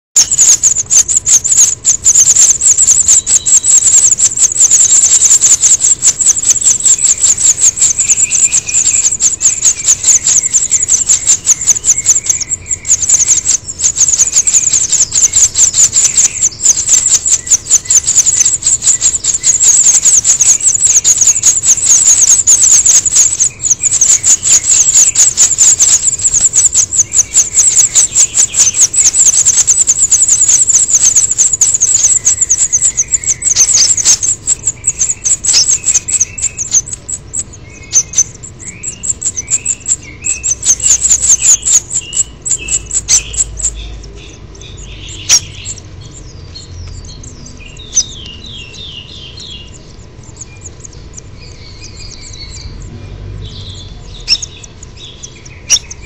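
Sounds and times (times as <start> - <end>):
nestlings begging calls: 0.2 - 56.0.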